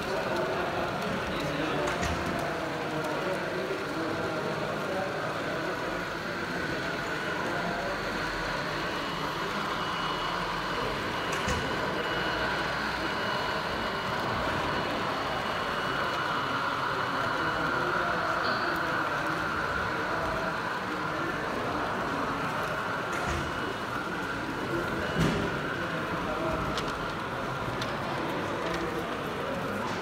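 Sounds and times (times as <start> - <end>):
large hall background noise: 0.0 - 30.0
model trains whirring on track: 0.0 - 30.0
thin steady whine: 2.7 - 30.0.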